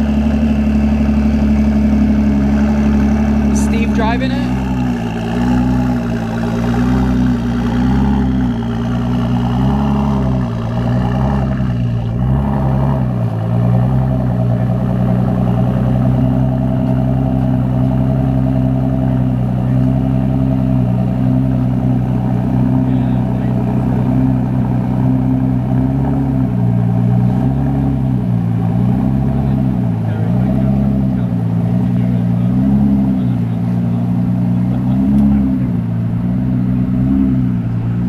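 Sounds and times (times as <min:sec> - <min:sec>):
car engine running at low revs: 0:00.0 - 0:38.0.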